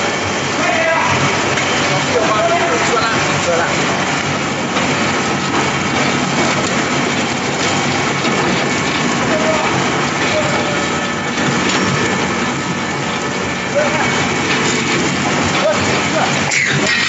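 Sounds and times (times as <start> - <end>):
pellet mill running: 0.0 - 17.0.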